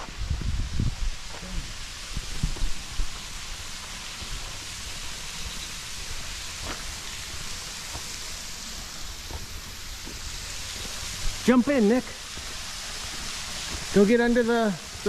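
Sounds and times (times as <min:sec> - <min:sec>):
waterfall pouring into pool: 0:01.1 - 0:15.0.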